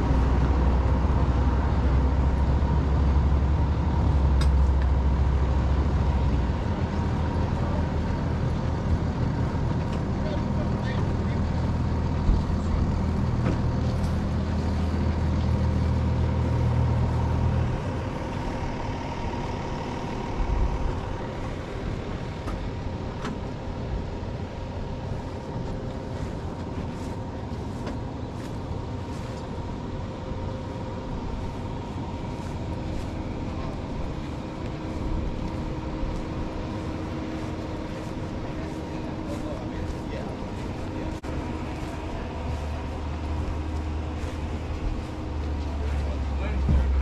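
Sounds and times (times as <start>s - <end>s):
engine idling: 0.0s - 47.0s
mechanical rumble: 0.0s - 47.0s.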